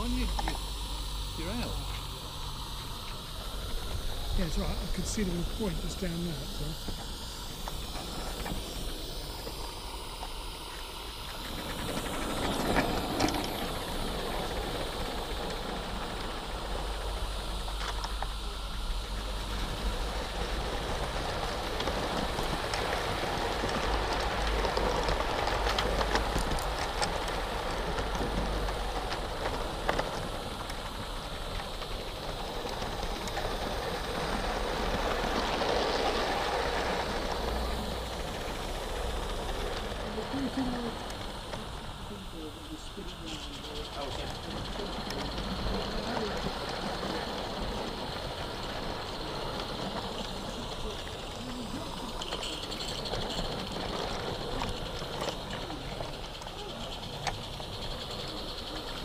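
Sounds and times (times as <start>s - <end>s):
low rumble of wheels: 0.0s - 59.0s
steam locomotive hissing: 0.0s - 59.0s
train wheels clicking on track: 0.0s - 59.0s.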